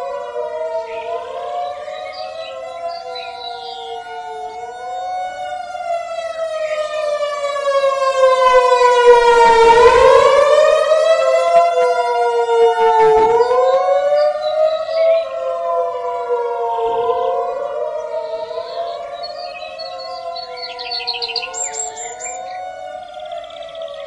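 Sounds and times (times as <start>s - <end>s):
wailing warning siren: 0.0s - 24.0s.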